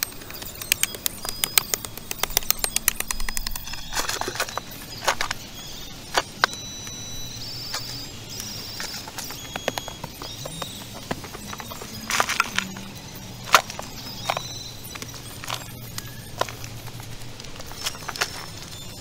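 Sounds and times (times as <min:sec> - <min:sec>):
stones knocking and clattering: 0:00.0 - 0:06.6, 0:07.6 - 0:19.0.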